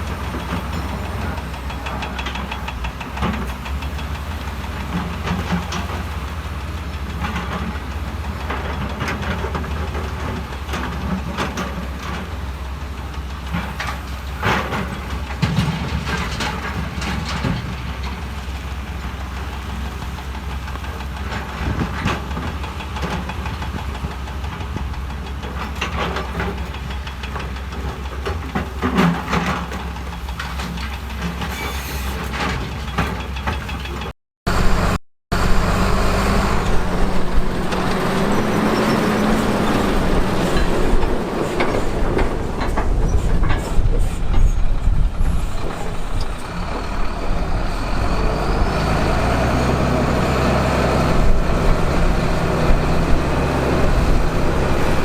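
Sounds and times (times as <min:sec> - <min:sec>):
heavy diesel machinery running: 0:00.0 - 0:55.0
rock and steel clanking: 0:00.0 - 0:55.0.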